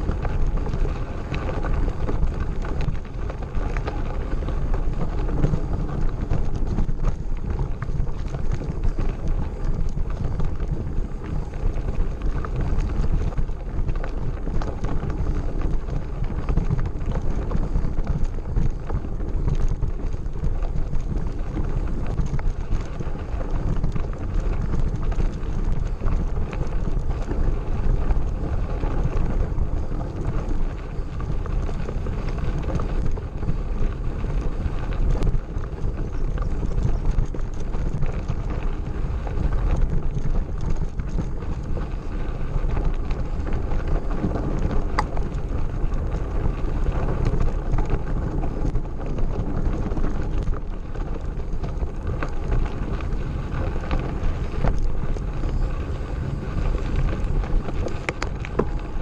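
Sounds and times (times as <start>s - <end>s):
bike rattling: 0.0s - 59.0s
bike tyres crunching on gravel: 0.0s - 59.0s
wind buffeting microphone: 0.0s - 59.0s.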